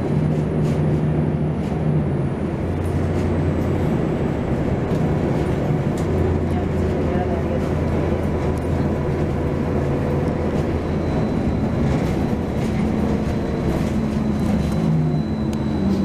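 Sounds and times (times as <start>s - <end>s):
bus engine drone: 0.0s - 16.0s
road rumble: 0.0s - 16.0s.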